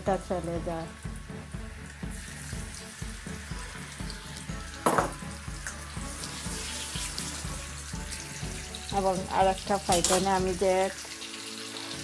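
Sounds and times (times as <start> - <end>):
background music with low beat: 0.0 - 12.0
fish sizzling in oil: 0.0 - 12.0.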